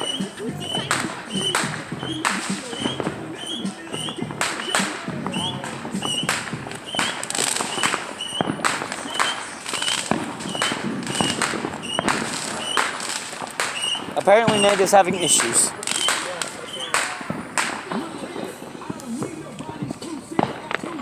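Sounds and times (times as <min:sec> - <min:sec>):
fireworks popping and crackling: 0:00.0 - 0:21.0.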